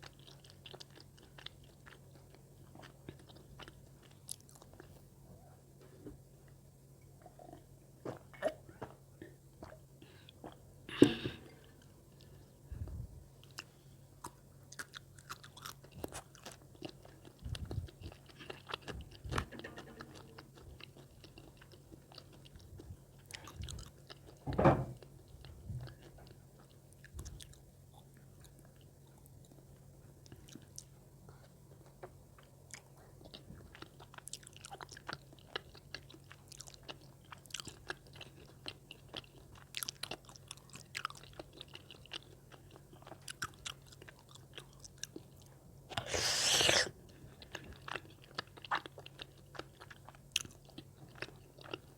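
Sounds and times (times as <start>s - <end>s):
chewing and biting: 0.0s - 5.0s, 12.2s - 29.6s, 30.2s - 51.9s
faint low hum: 0.0s - 51.9s.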